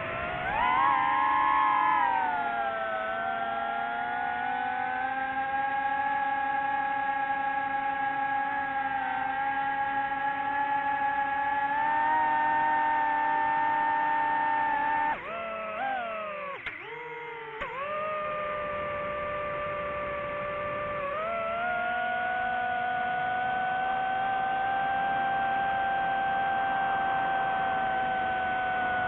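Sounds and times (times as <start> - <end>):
drone propellers whining: 0.0 - 29.0.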